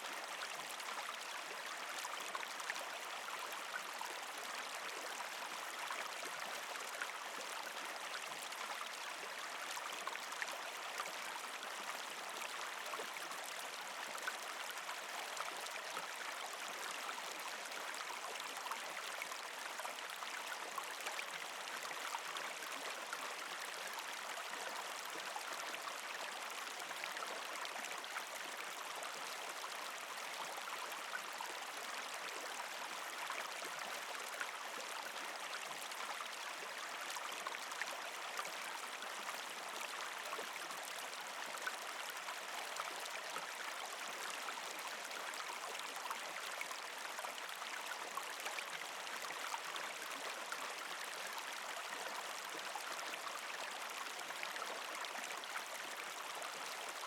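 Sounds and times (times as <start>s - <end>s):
creek water gurgling over rocks: 0.0s - 57.0s.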